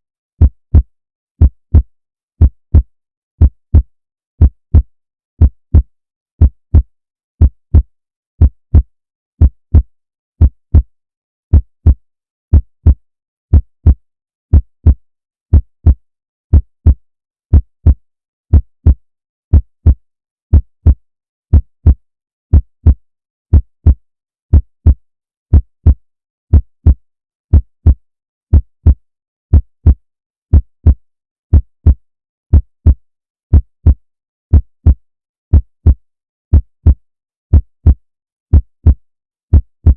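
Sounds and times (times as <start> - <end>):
heartbeat thumping: 0.4 - 10.9, 11.5 - 39.9.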